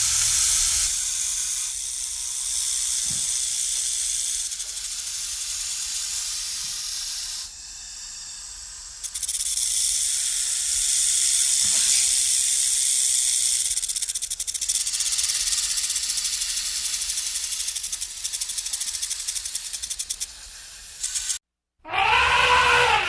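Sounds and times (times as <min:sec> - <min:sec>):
snake hissing: 0:00.0 - 0:21.4.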